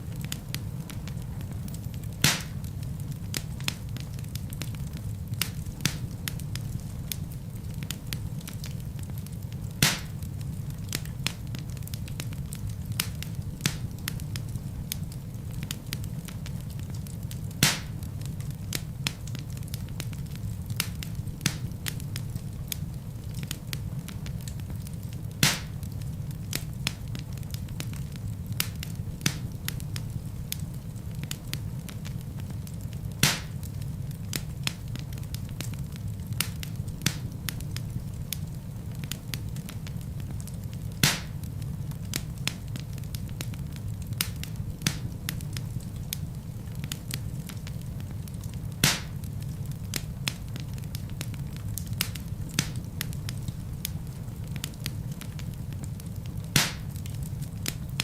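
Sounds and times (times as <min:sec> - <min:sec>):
fire low rumble: 0:00.0 - 0:58.0
loud pops from fire: 0:00.0 - 0:58.0
wood fire crackling: 0:00.0 - 0:58.0.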